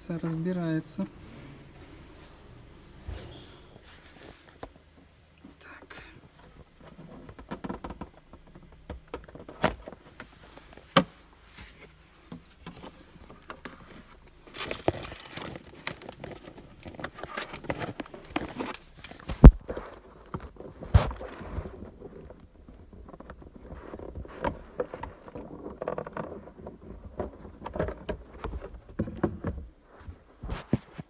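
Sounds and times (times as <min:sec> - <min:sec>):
plastic rustling handling noise: 0:00.0 - 0:31.0.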